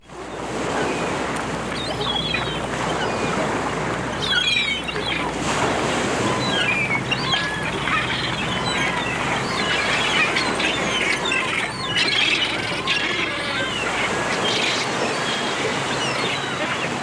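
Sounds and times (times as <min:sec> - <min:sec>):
gulls squawking: 0:00.0 - 0:17.0
sea surf washing: 0:00.0 - 0:17.0.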